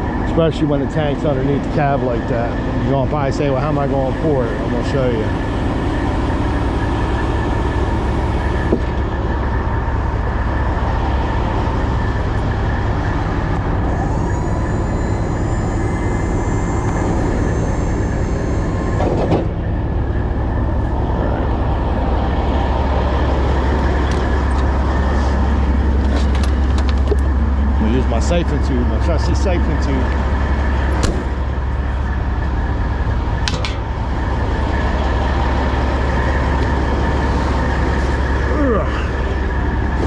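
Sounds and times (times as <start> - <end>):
diesel truck engine idling: 0.0 - 40.0
faint high whine: 0.0 - 40.0.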